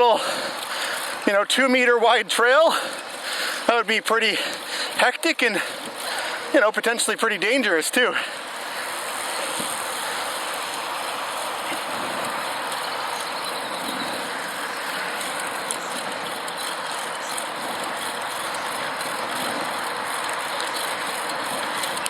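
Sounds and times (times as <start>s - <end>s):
air and road noise: 0.0s - 22.0s.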